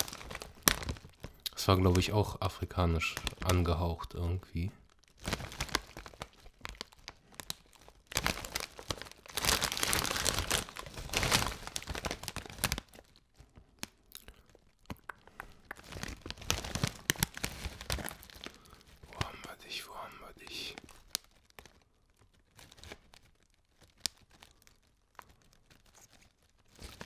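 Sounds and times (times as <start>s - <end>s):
crisp bag crinkling: 0.0s - 27.0s.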